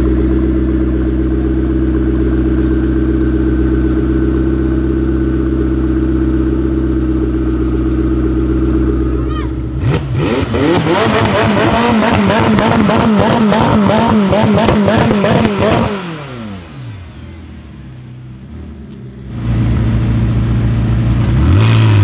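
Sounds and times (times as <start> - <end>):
car engine revving: 0.0 - 22.0
steady engine drone: 0.0 - 22.0.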